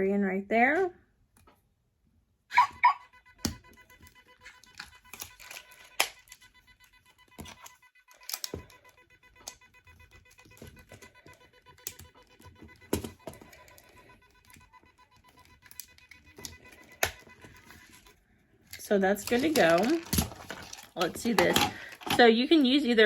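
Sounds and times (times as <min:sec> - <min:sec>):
faint steady tone: 0:02.9 - 0:23.0.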